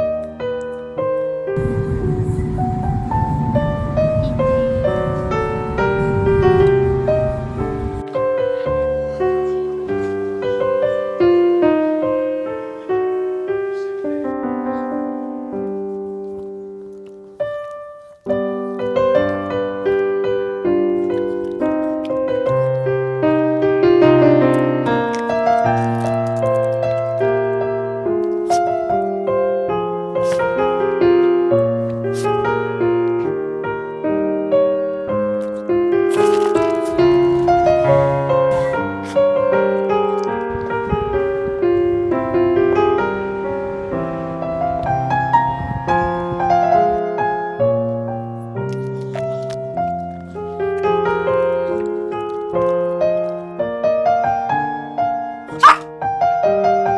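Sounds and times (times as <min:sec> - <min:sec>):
slow piano music: 0:00.0 - 0:56.9.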